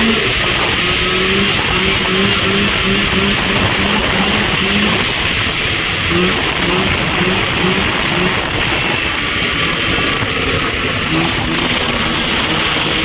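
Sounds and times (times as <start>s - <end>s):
loud rushing noise: 0.0s - 13.0s
snowmobile engine running: 0.0s - 13.0s.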